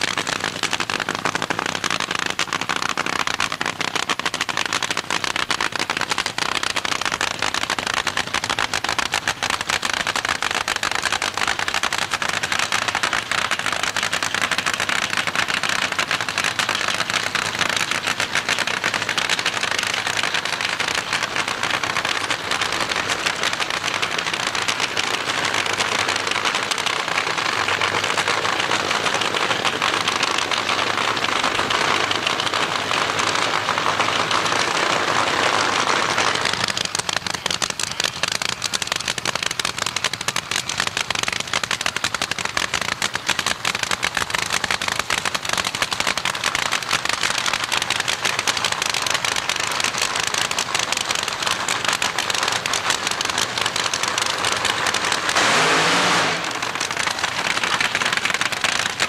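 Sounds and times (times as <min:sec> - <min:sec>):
racing engines popping: 0:00.0 - 0:59.0.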